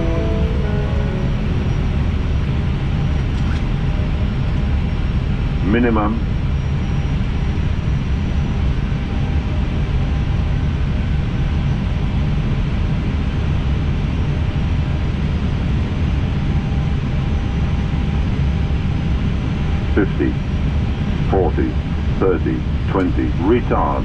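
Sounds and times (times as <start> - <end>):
airflow and engine rush: 0.0 - 24.0
faint steady whine tones: 0.0 - 24.0.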